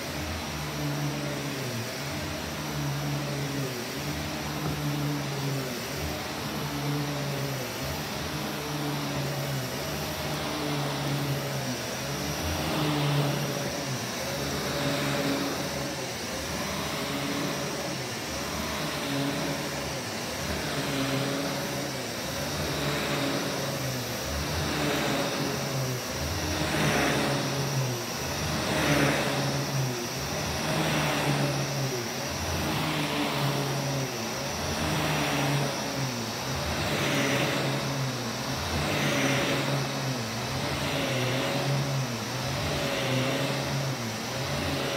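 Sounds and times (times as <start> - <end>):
upright vacuum cleaner on carpet: 0.0 - 44.9.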